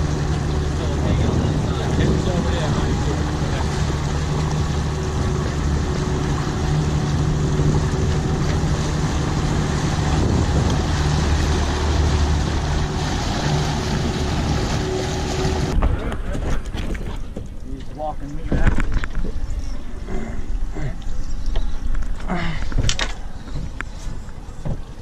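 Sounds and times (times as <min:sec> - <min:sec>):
boat engine humming: 0:00.0 - 0:25.0
wind and water rushing: 0:00.0 - 0:25.0.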